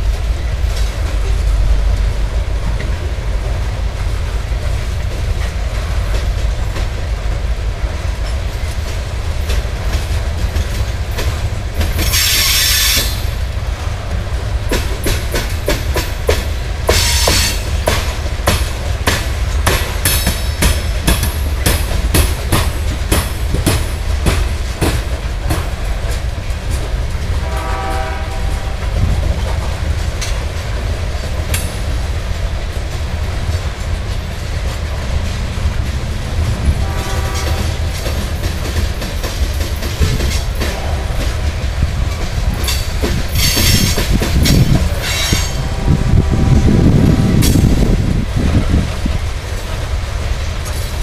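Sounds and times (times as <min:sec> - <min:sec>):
wheels clicking over rail joints: 0:00.0 - 0:45.7, 0:46.9 - 0:51.0
train cars rumbling past: 0:00.0 - 0:51.0.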